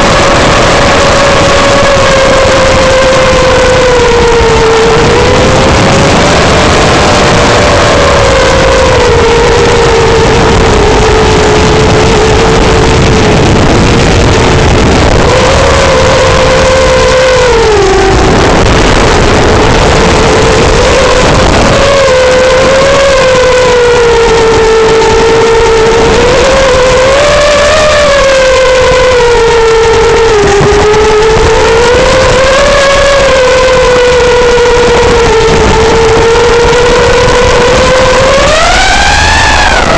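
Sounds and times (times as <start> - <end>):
quadcopter motors whining: 0.0 - 39.9
steady rushing noise: 0.0 - 39.9.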